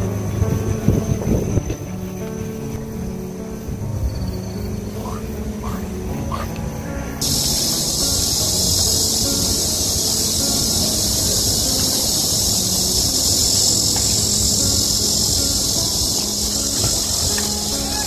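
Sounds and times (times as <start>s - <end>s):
shrill insect chorus: 0.0s - 18.0s.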